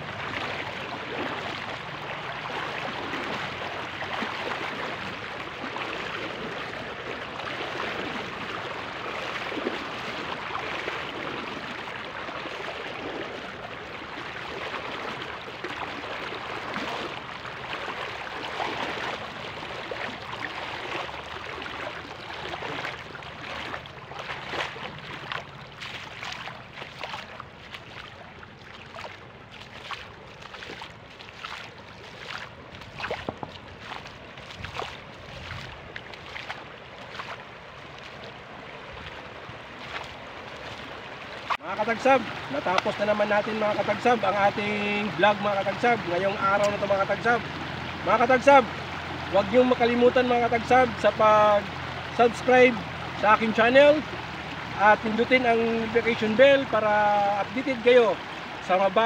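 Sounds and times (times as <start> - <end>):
stream water rushing: 0.0 - 59.0
water splashing: 0.0 - 59.0.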